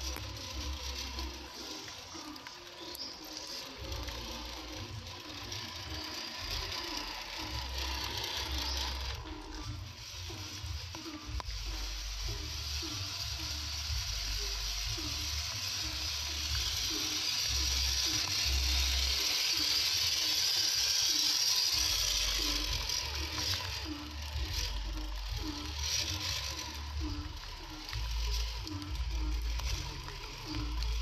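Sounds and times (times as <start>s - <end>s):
toy car motor whirring: 0.0s - 31.0s.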